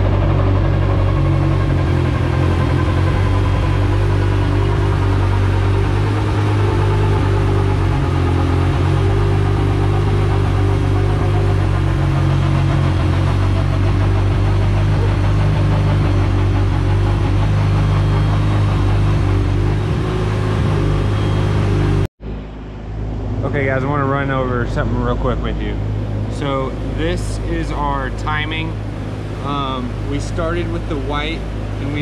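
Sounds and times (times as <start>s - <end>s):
car engine low drone: 0.0s - 32.0s.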